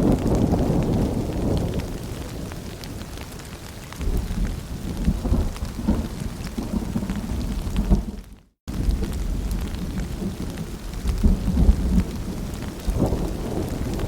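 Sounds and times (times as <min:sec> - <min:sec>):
low rolling thunder rumble: 0:00.0 - 0:03.2, 0:04.0 - 0:14.0
steady rain: 0:00.0 - 0:14.0.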